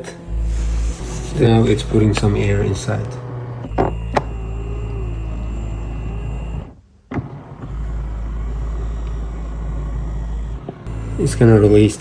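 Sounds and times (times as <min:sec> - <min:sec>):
air pump humming: 0:00.0 - 0:12.0.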